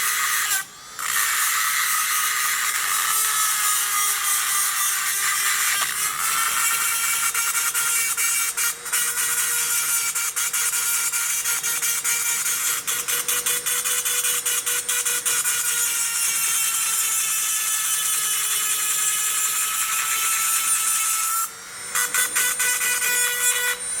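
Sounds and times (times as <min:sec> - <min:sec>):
angle grinder grinding metal: 0:00.0 - 0:24.0.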